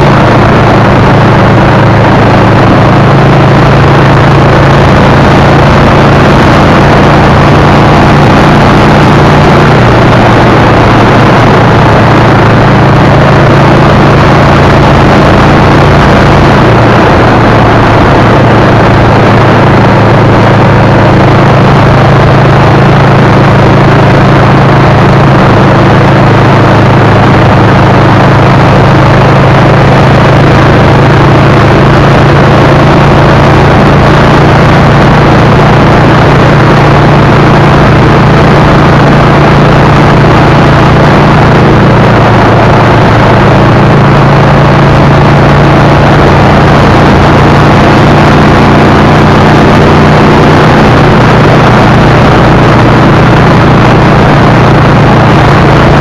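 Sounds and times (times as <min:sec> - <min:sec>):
road and wind noise: 0:00.0 - 0:56.0
vehicle engine droning: 0:00.0 - 0:56.0.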